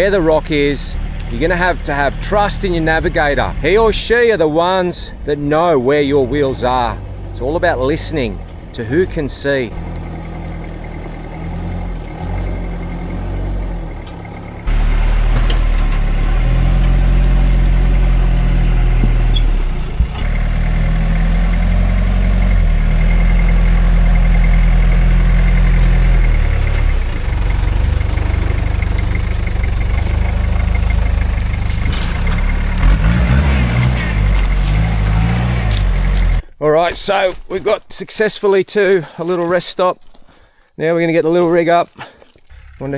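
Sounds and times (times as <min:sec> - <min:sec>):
truck engine running at low revs: 0:00.0 - 0:36.4.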